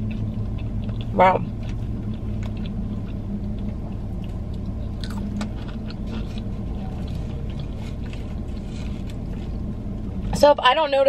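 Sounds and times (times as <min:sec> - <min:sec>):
wet chewing with crackles: 0:00.0 - 0:10.4
low hum inside car: 0:00.0 - 0:11.0.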